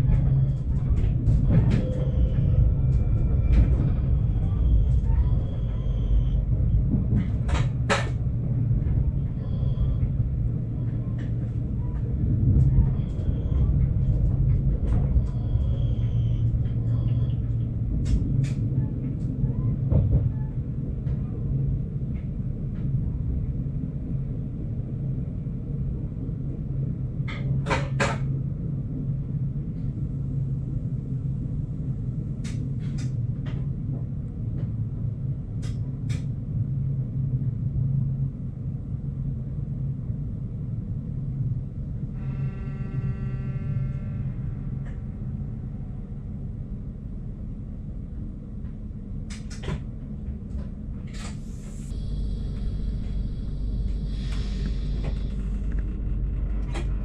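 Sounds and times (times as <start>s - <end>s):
train engine and running rumble: 0.0s - 57.0s.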